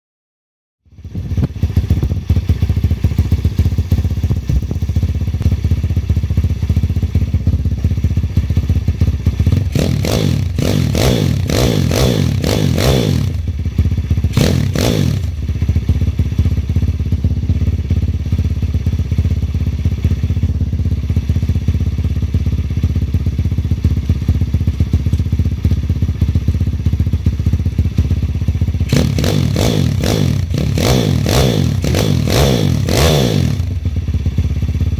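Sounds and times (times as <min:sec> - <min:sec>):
motorbike engine idling: 0:00.9 - 0:34.9.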